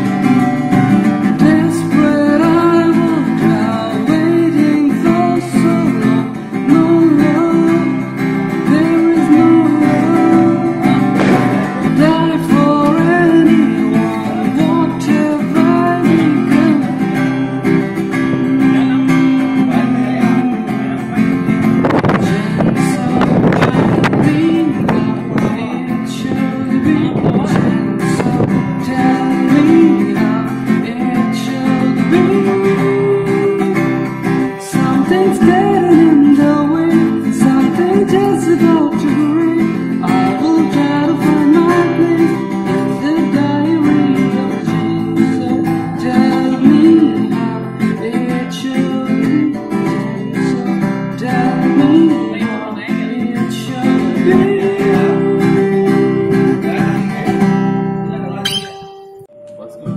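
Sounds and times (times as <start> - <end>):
man singing: 0.0 - 57.7
acoustic guitar strumming: 0.0 - 59.9.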